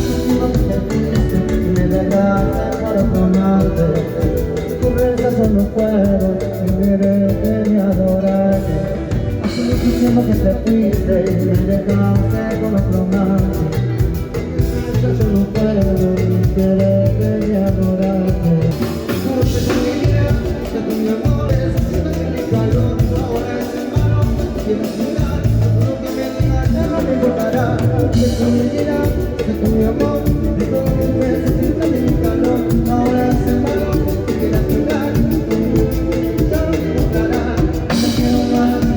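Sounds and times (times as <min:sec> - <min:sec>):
drums: 0:00.0 - 0:38.9
guitar: 0:00.0 - 0:38.9
person singing: 0:00.0 - 0:38.9.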